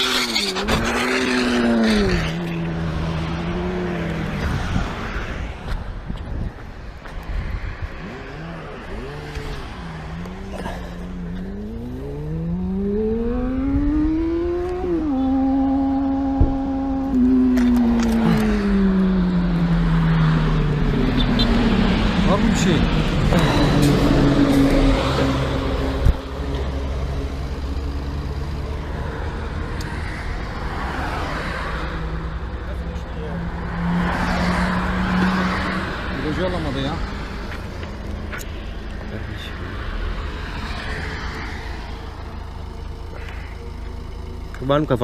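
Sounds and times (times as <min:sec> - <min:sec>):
road noise: 0:00.0 - 0:45.0
vehicle engine accelerating: 0:06.6 - 0:45.0.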